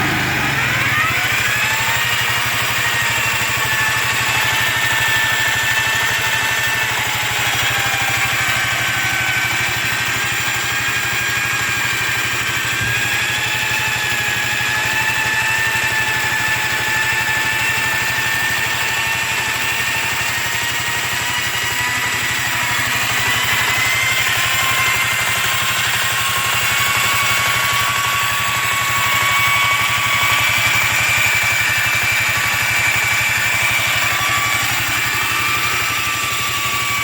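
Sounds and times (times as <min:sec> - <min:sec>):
scooter engine running: 0:00.0 - 0:37.0.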